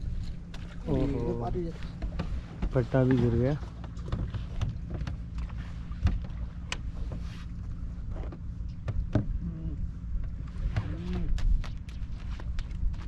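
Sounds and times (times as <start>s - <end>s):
boat engine idling: 0.0s - 12.9s.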